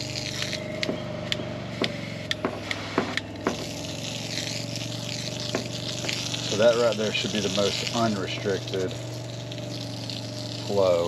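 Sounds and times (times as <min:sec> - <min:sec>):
water spray hiss: 0:00.0 - 0:01.0, 0:01.6 - 0:11.0
water pump humming: 0:00.0 - 0:11.0.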